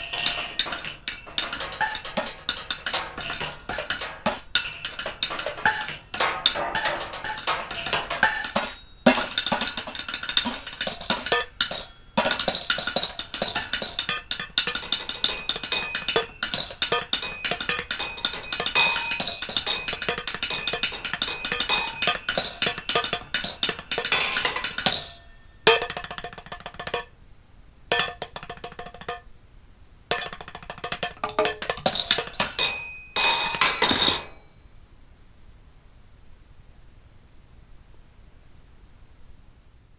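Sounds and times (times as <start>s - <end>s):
percussion on plates: 0.0s - 27.2s, 27.9s - 29.3s, 30.1s - 34.7s.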